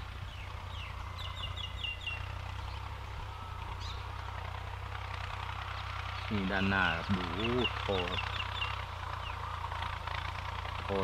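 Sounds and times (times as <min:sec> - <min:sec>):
bird chirping: 0:00.0 - 0:11.0
distant tractor diesel engine hum: 0:00.0 - 0:11.0.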